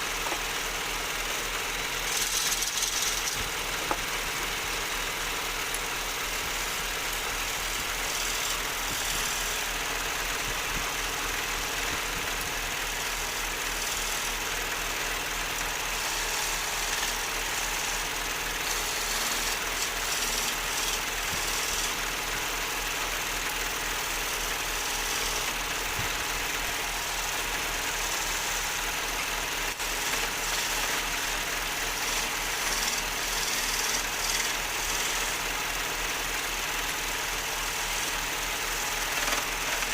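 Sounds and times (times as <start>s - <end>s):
wood lathe running: 0.0s - 39.9s.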